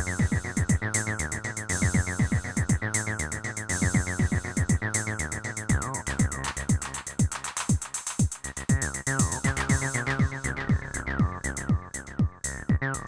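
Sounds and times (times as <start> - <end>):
kick drums dropping in pitch: 0.0 - 1.0, 1.8 - 2.9, 3.8 - 5.0, 5.7 - 13.0
sequenced synth bassline: 0.0 - 13.0
ticking hi-hats: 0.0 - 13.0.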